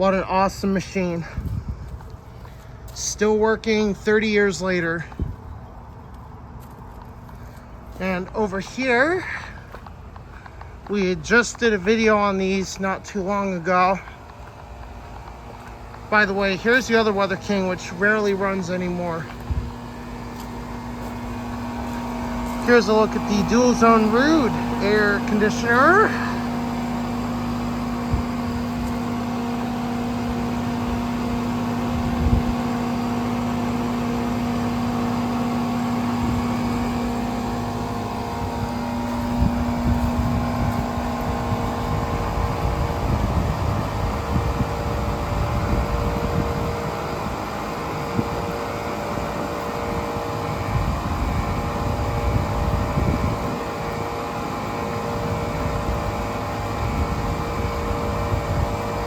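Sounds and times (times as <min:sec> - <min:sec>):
compressor hum: 0:00.0 - 0:59.0
condenser fans whooshing: 0:00.0 - 0:59.0.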